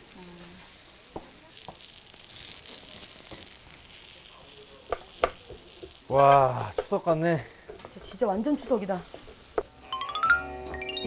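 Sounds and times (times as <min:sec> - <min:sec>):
vegetables sizzling in oil: 0:00.0 - 0:09.9.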